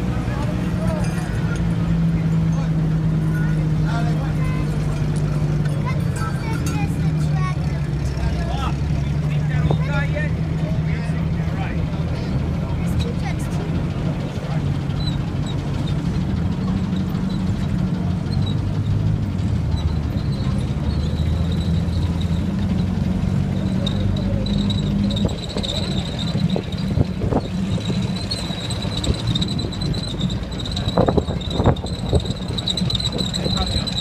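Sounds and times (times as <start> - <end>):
armored car engines rumbling: 0.0 - 34.0.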